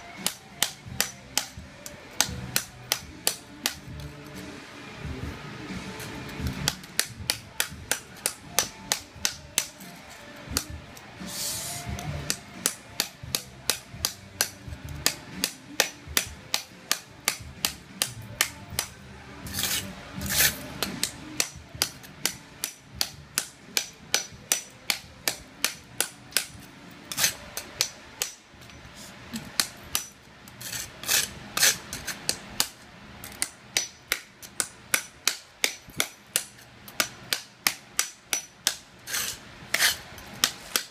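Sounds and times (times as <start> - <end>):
hammer striking chisel on tile: 0.2 - 4.0, 6.0 - 9.9, 10.5 - 28.4, 33.4 - 40.9.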